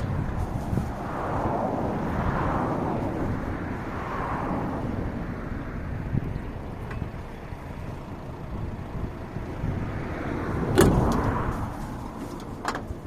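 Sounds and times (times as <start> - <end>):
van engine rumbling under load: 0.0 - 13.0.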